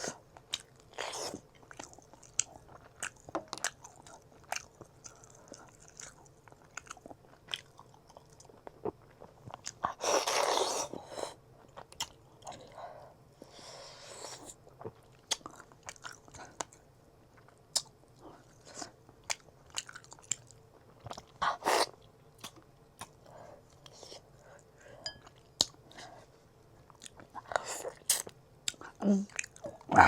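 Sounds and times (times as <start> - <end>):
close chewing mouth sounds: 0.0 - 10.7, 14.7 - 16.8, 17.4 - 26.2, 26.8 - 30.0.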